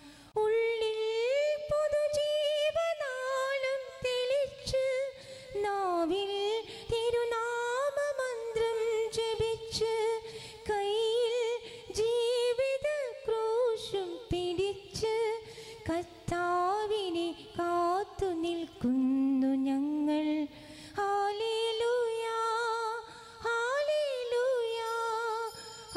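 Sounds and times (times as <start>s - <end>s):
woman singing a hymn: 0.0s - 25.5s.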